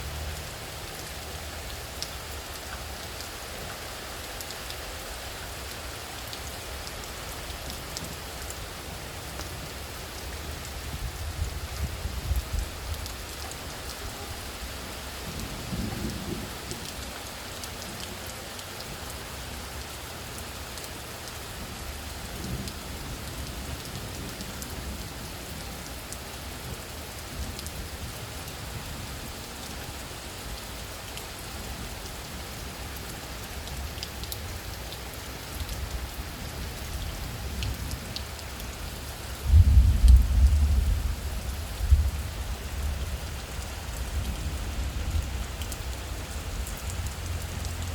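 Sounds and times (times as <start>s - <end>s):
rain in strong wind: 0.0s - 47.9s.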